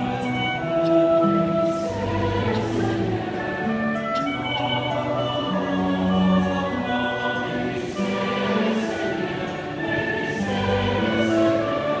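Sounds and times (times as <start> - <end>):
congregation singing a chant: 0.0 - 12.0.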